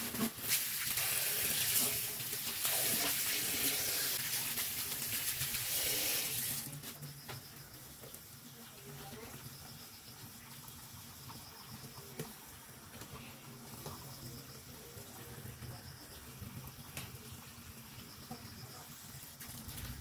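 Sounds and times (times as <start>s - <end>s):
faint running water: 0.0s - 20.0s.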